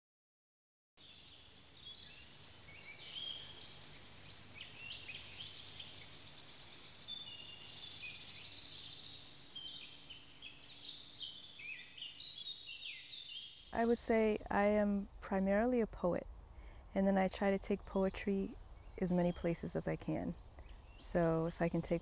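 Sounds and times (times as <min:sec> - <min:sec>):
songbirds chirping and trilling: 0:01.0 - 0:22.0.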